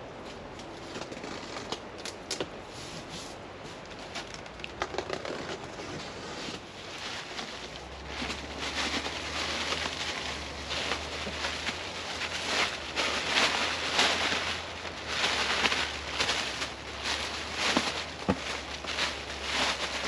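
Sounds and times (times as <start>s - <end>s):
steady low hum: 0.0s - 20.0s
packaging rustling and crinkling: 3.8s - 20.0s.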